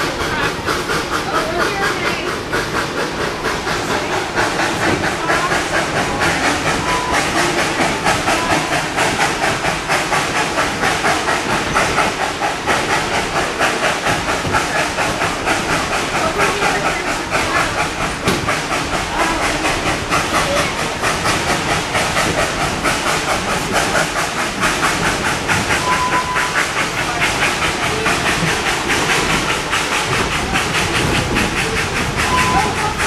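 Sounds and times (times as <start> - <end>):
steam train running: 0.0 - 33.0.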